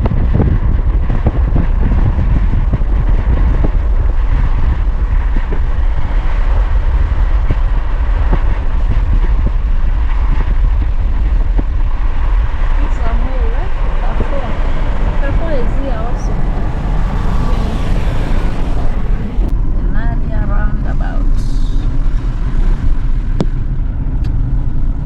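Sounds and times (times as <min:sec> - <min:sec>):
road rumble inside car: 0:00.0 - 0:25.0.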